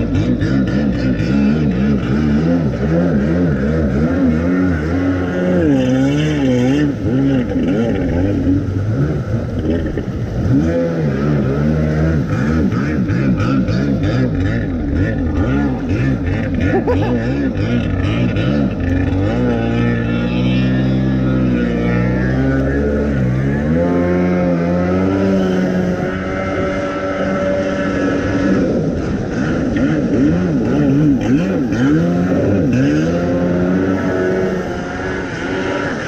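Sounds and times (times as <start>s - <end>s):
jet ski engine revving: 0.0s - 36.0s.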